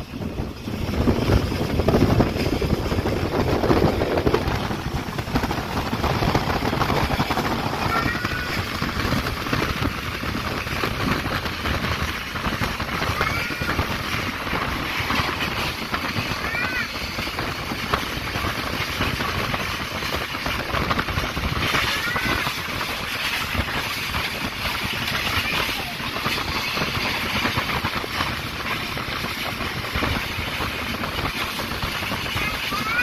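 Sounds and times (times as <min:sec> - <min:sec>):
low rumble: 0:00.0 - 0:33.0
rushing wind: 0:00.0 - 0:33.0
train wheels rattling on rails: 0:00.0 - 0:33.0.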